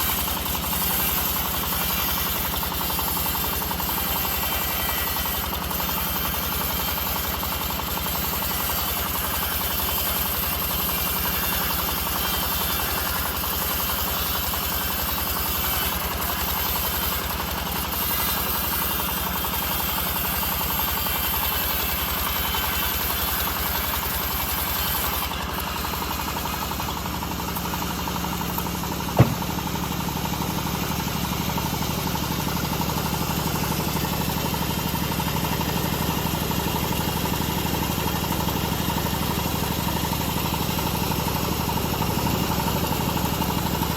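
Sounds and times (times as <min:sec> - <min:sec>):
bandsaw sawing logs: 0:00.0 - 0:43.9.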